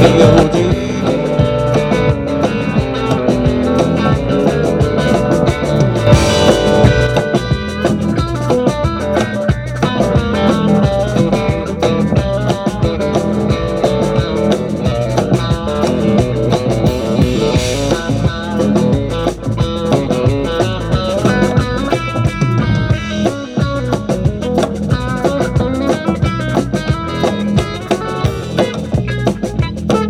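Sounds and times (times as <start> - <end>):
bass guitar: 0.0 - 30.0
drum kit: 0.0 - 30.0
electric guitar lead: 0.0 - 30.0.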